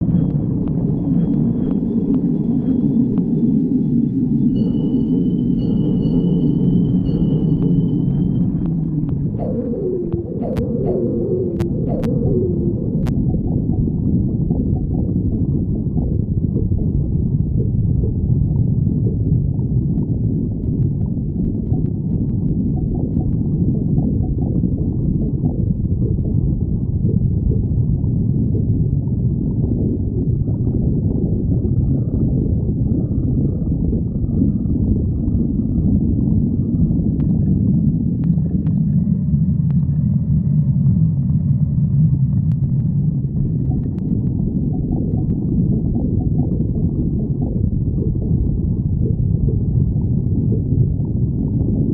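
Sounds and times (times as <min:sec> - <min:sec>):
stomach growling: 0:05.6 - 0:51.9.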